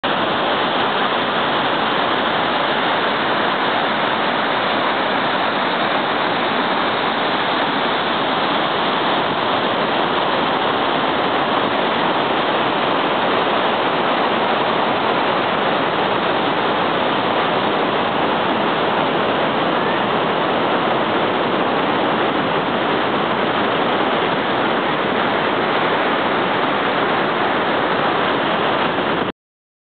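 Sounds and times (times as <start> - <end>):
waterfall rushing: 0.0 - 29.3.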